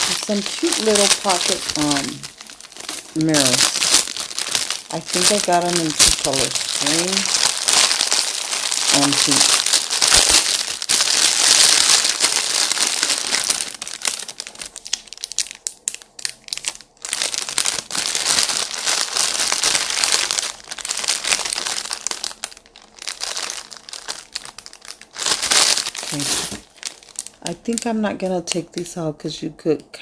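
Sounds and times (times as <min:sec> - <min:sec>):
plastic bag crinkling: 0:00.0 - 0:28.0.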